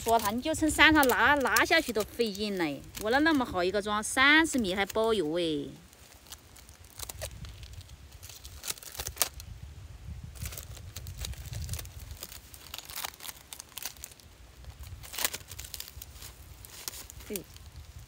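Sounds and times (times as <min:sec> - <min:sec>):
crackling in dry leaves: 0:00.0 - 0:18.0.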